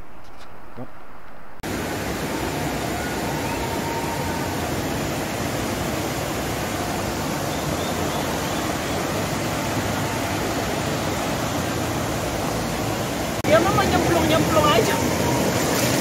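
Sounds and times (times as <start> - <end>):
river rushing over boulders: 1.6 - 16.0.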